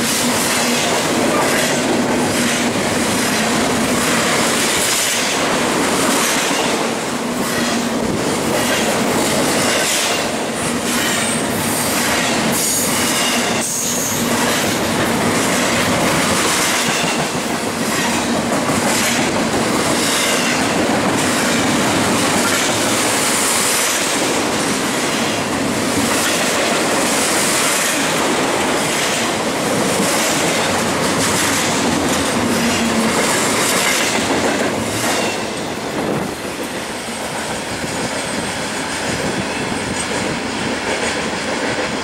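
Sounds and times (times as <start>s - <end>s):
freight train wheels clattering: 0.0s - 42.0s.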